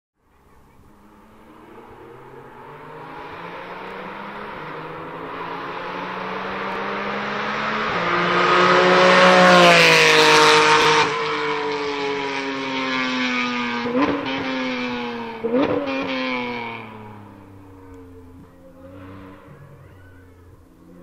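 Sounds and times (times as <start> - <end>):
car engine at high revs: 0.4 - 21.0
engine rev blips: 0.8 - 21.0.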